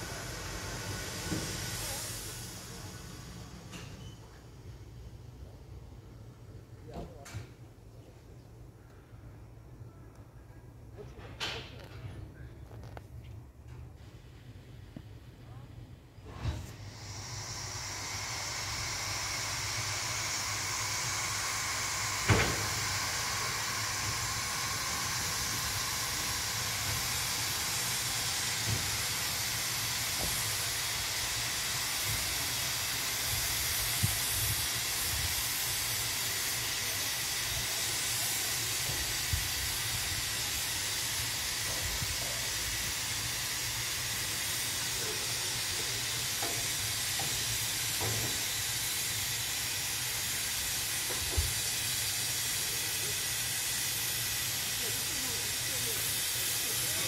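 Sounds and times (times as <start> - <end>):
steam locomotive hissing: 0.0 - 6.8, 13.8 - 57.0.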